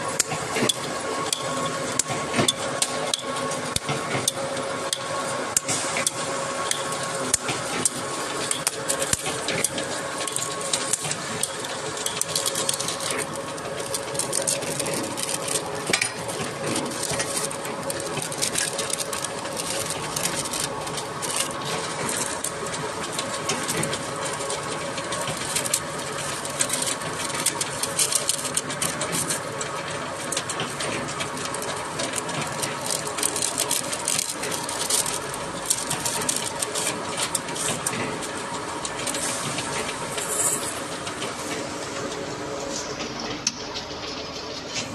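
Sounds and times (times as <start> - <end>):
machine hum: 4.4 - 44.9.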